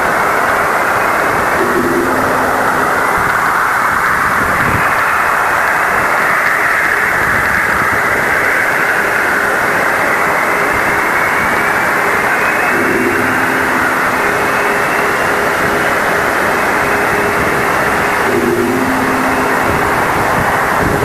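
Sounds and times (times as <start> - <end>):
faint steady tones: 0.0 - 21.0
loud hiss of radio noise: 0.0 - 21.0.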